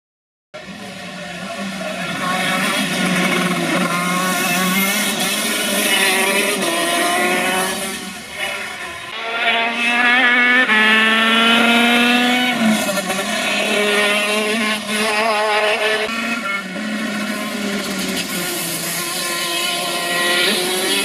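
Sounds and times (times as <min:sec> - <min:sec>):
two-stroke kart engine revving: 0:00.7 - 0:21.0.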